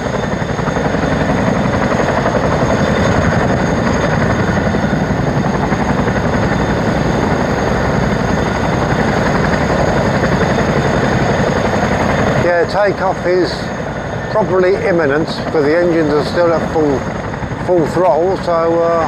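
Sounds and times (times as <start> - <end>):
helicopter rotor chop: 0.0 - 19.0
turbine whine: 0.0 - 19.0.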